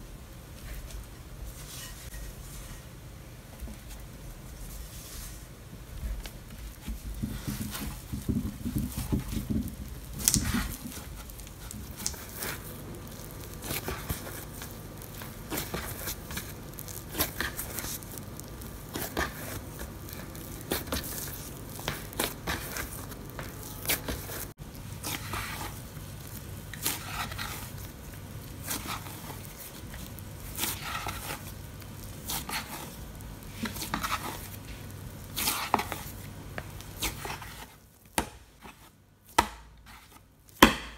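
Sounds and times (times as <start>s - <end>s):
dough squishing and tearing: 3.8s - 40.9s.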